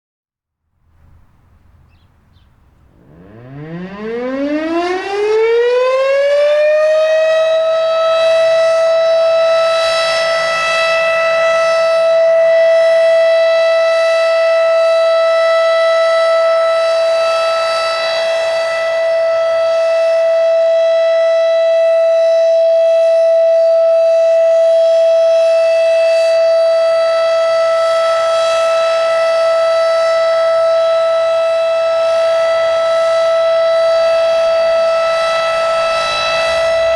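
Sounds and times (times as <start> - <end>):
warning siren winding up: 2.8 - 36.9.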